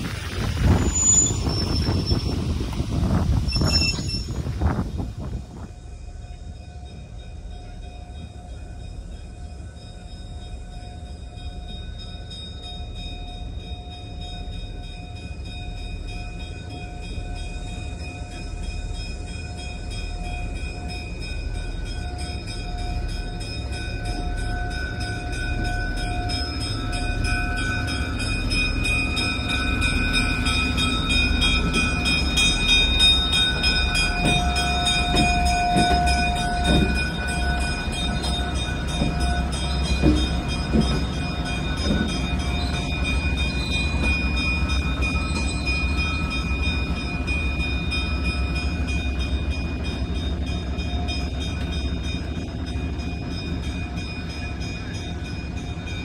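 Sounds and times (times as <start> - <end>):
diesel locomotive engine rumble: 0.0 - 56.0
locomotive bell ringing: 0.8 - 4.6, 5.6 - 56.0
train wheels clattering on rails: 10.8 - 56.0.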